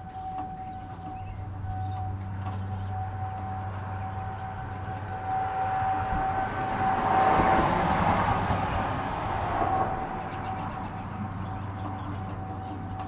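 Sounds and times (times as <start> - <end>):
vehicle passing: 0.0 - 13.0
warning siren steady tone: 0.0 - 13.0.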